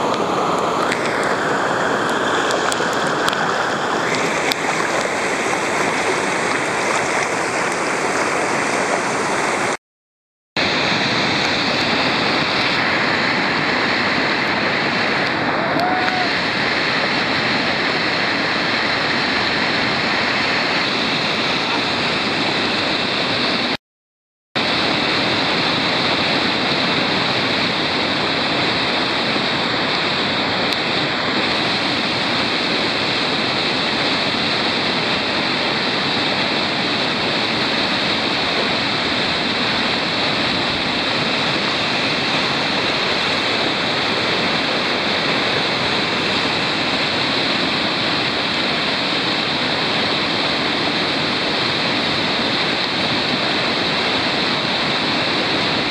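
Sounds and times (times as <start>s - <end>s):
rapids rushing over boulders: 0.0s - 9.8s, 10.6s - 23.8s, 24.6s - 55.9s.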